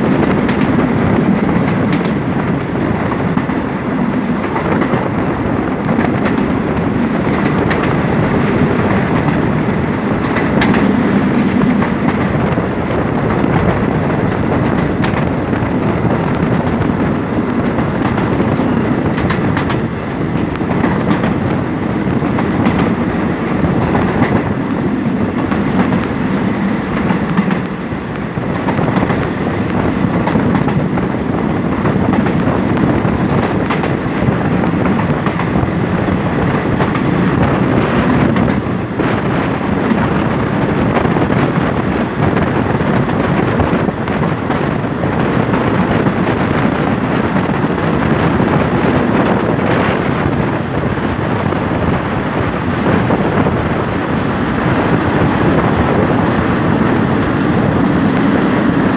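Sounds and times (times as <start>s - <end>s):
train wheels rumbling on rails: 0.0s - 58.9s
wind rushing: 0.0s - 58.9s.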